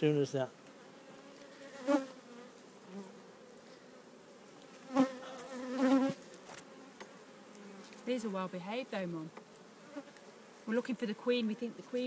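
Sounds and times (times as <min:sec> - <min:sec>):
honeybees buzzing: 0:00.1 - 0:12.0.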